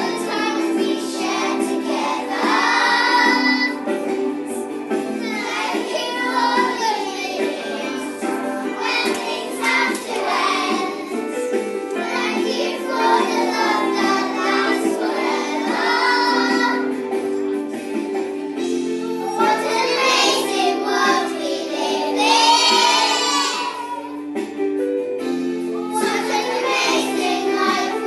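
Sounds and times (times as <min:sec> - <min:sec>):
children singing: 0:00.0 - 0:17.6, 0:19.0 - 0:24.2, 0:25.8 - 0:28.0
musical accompaniment: 0:00.0 - 0:28.0.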